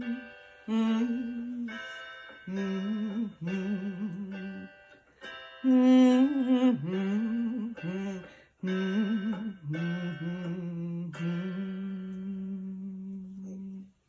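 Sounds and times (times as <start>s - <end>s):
woman humming a melody: 0.0s - 4.7s, 5.7s - 14.0s.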